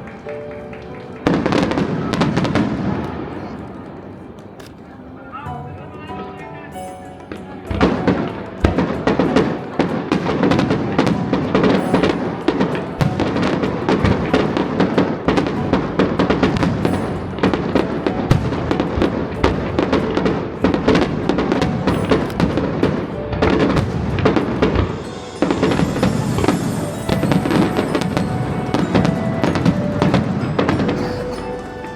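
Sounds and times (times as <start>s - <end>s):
aerial fireworks bangs and crackles: 1.2s - 3.4s, 7.7s - 31.9s.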